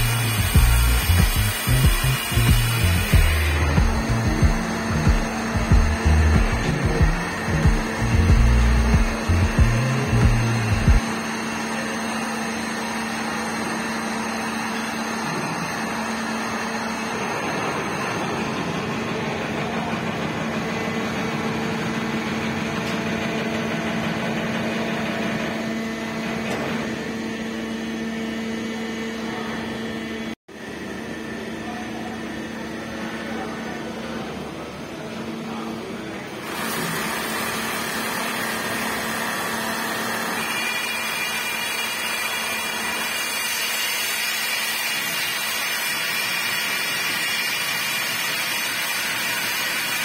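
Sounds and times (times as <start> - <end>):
drilling rig mechanical drone: 0.0 - 50.0.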